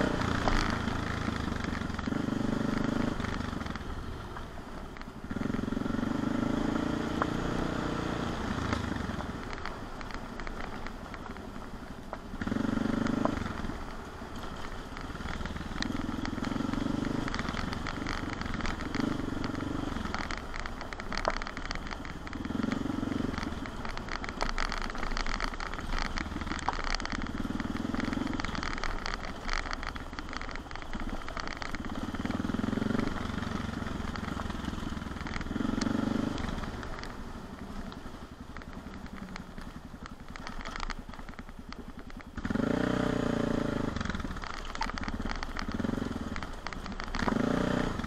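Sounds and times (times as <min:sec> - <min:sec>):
motorcycle engine revving: 0:00.0 - 0:48.0
tyres crackling on stony track: 0:00.0 - 0:48.0.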